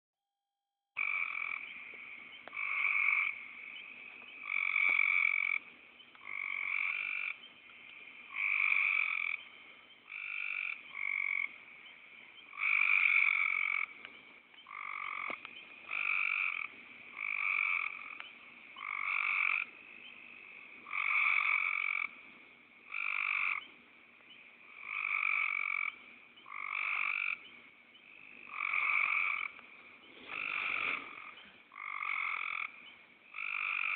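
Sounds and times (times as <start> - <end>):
frog croaking: 1.0 - 33.9.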